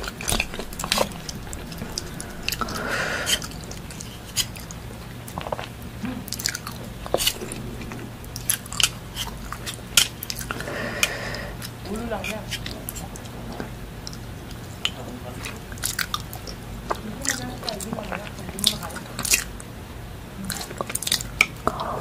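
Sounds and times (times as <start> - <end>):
faint low hum: 0.0 - 22.0
people chewing food: 0.0 - 22.0.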